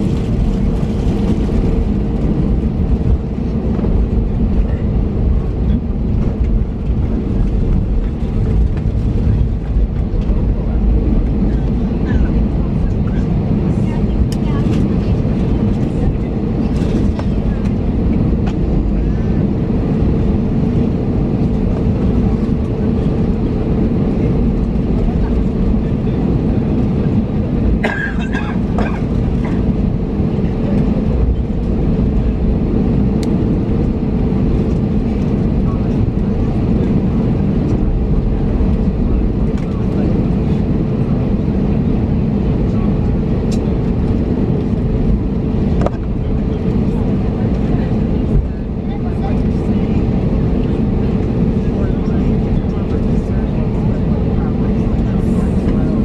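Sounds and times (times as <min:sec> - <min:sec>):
low engine and wheel rumble: 0:00.0 - 0:56.0
steady cabin hum: 0:00.0 - 0:56.0
faint voices: 0:00.1 - 0:56.0.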